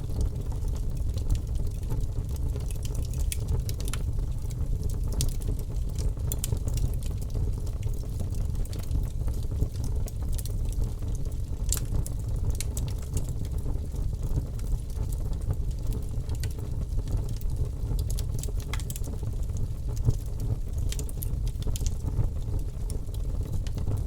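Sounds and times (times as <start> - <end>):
bonfire crackling and popping: 0.0 - 24.0.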